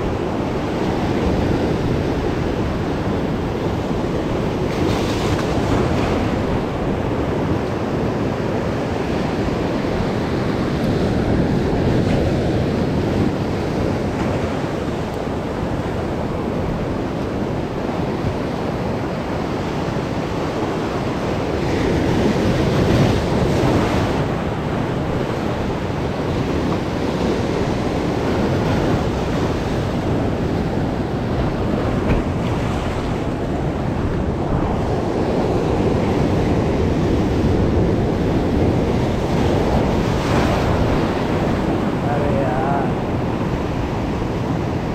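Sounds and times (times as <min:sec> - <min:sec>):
wind on microphone: 0:00.0 - 0:44.9.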